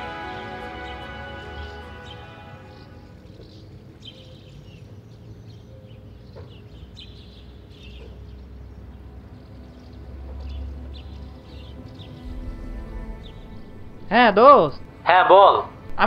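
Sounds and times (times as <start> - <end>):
birds chirping: 0.0 - 16.0
street ambience rumble: 0.0 - 16.0.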